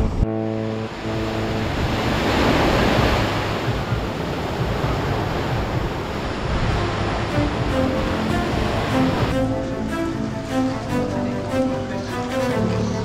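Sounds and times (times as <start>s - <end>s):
music: 0.0s - 13.0s
surf washing: 0.0s - 13.0s.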